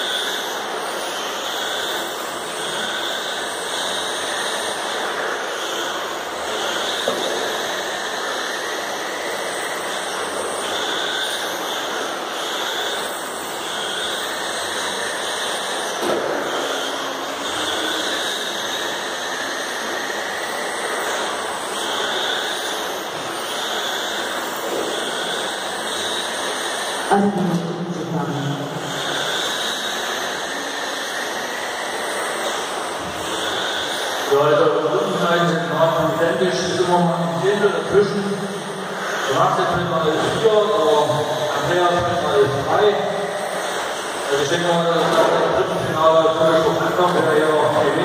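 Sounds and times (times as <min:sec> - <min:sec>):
rc car motor whine: 0:00.0 - 0:48.0.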